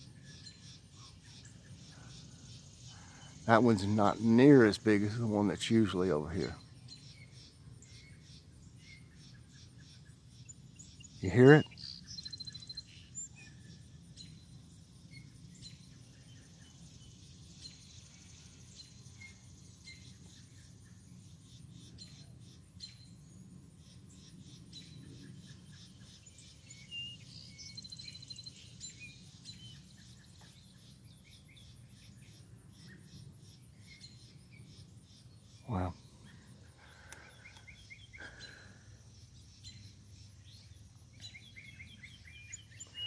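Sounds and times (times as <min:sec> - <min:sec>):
low outdoor background noise: 0:00.0 - 0:43.0
small bird chirps: 0:00.0 - 0:43.0.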